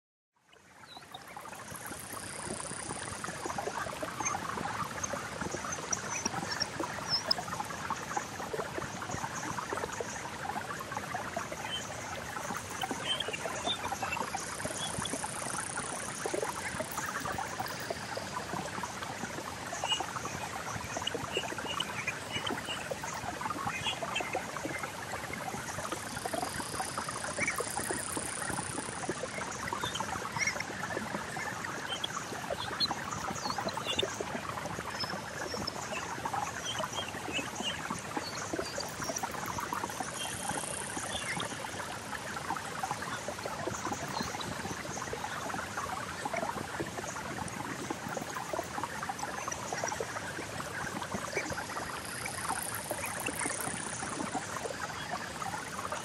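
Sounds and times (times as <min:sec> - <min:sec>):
synthesized trickling texture: 0:00.6 - 0:56.0.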